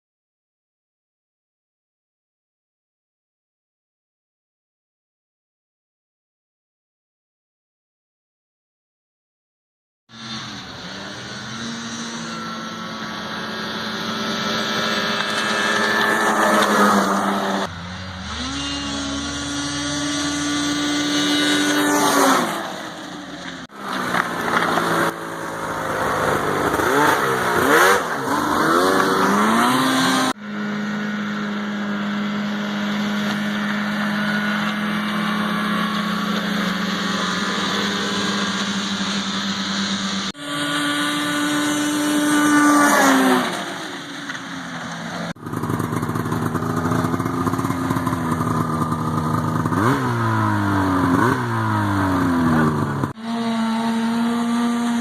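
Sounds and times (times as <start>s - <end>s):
snowmobile engine revving: 10.1s - 55.0s.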